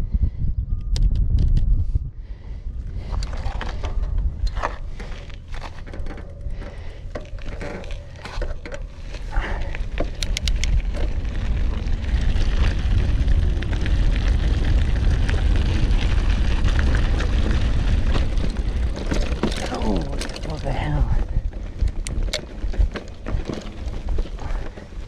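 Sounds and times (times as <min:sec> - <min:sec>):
wind rumbling on microphone: 0:00.0 - 0:25.0
bike clicking and rattling: 0:02.4 - 0:25.0
bike tyres crunching: 0:02.4 - 0:25.0.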